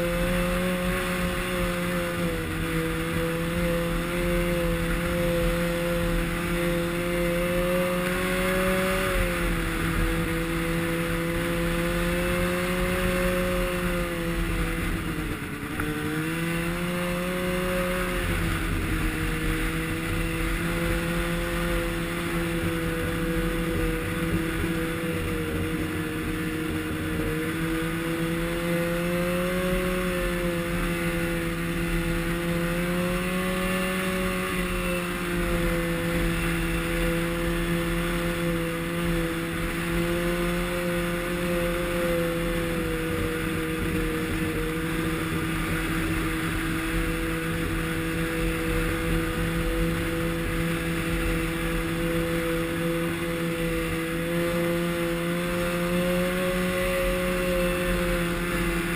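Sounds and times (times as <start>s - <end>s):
snowmobile engine running: 0.0s - 58.9s
steady rushing noise: 0.0s - 58.9s.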